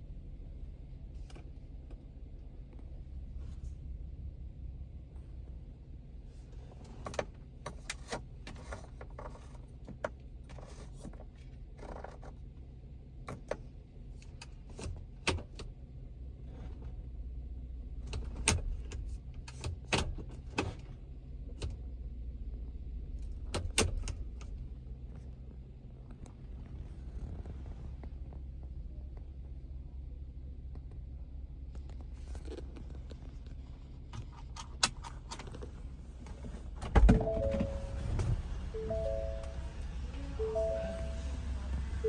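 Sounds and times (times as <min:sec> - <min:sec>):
engine idling hum: 0:00.0 - 0:42.0.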